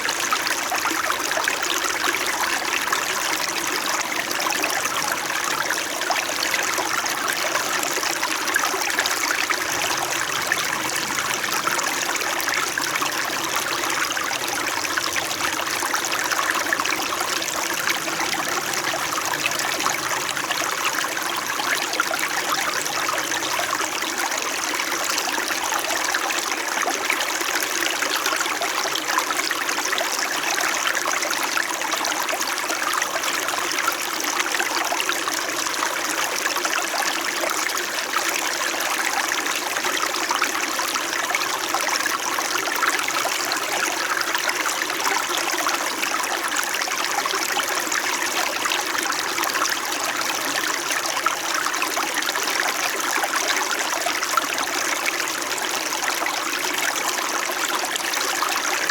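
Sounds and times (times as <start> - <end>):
stream babbling over stones: 0.0 - 58.9.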